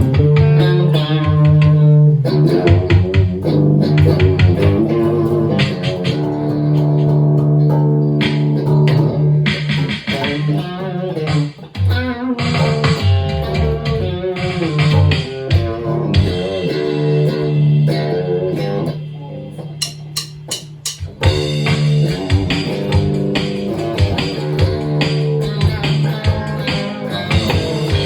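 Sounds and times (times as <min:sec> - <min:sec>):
electric guitar: 0:00.0 - 0:20.2, 0:21.0 - 0:28.0
bass guitar: 0:00.0 - 0:28.0.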